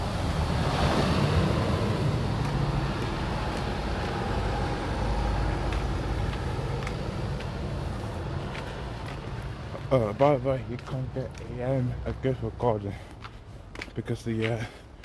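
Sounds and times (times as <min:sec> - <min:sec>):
bus diesel engine passing: 0:00.0 - 0:12.9.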